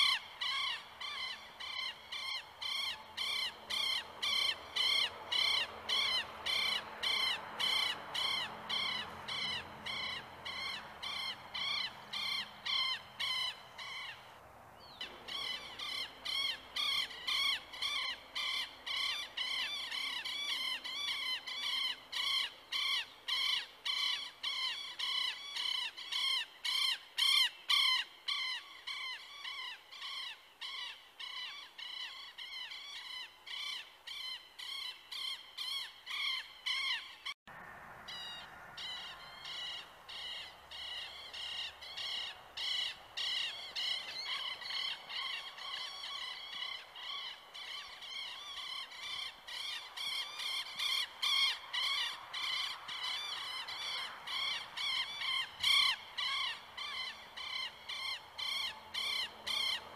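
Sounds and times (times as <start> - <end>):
bird calling harshly: 0.0 - 37.4, 38.1 - 59.9.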